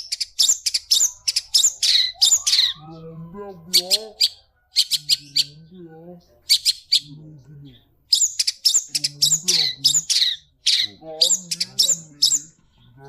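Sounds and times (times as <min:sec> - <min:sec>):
shrike singing: 0:00.0 - 0:13.0.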